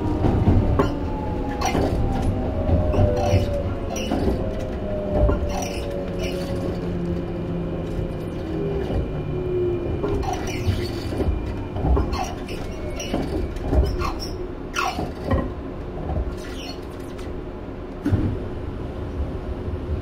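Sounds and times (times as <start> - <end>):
rail-joint clicks: 0.0 - 9.2, 9.8 - 18.3
electric train inverter whine: 0.0 - 20.0
wheels rumbling on rails: 0.0 - 20.0.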